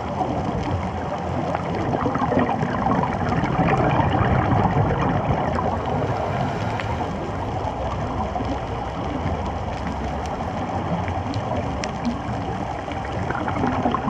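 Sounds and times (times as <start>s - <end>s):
small crackles: 0.0s - 14.0s
underwater rushing water: 0.0s - 14.0s.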